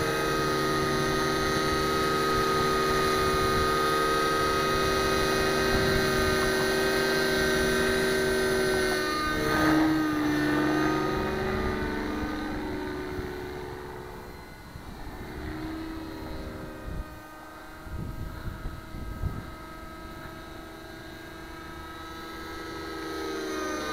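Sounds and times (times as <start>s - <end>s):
rc helicopter engine whine: 0.0s - 23.9s.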